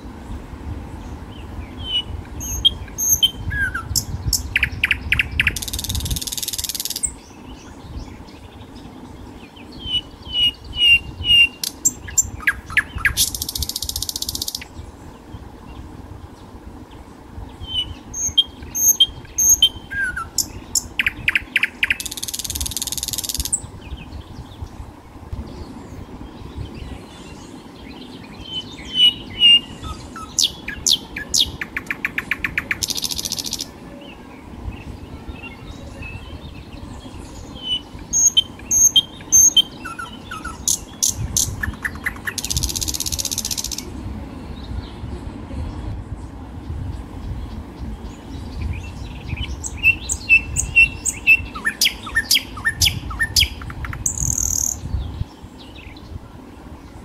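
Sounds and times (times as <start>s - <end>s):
bird chirps: 1.0s - 14.9s, 17.6s - 24.7s, 25.5s - 43.9s, 47.3s - 56.2s.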